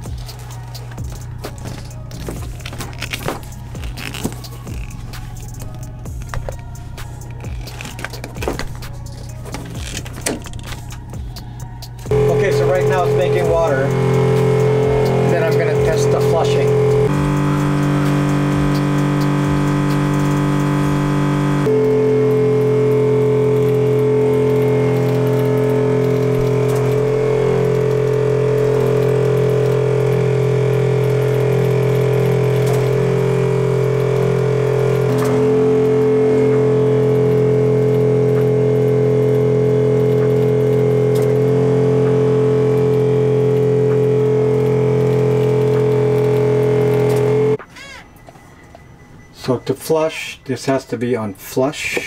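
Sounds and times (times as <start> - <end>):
pump humming: 0.0 - 47.6.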